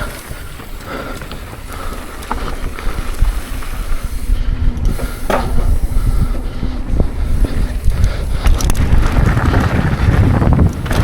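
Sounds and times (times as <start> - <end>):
mountain bike rattling: 0.0 - 11.0
wind buffeting microphone: 0.0 - 11.0.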